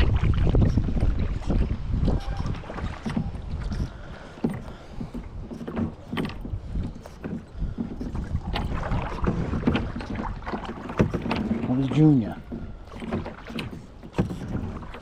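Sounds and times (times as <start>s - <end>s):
kayak paddle splashing: 0.0s - 15.0s
low rumbling water wash: 0.0s - 15.0s.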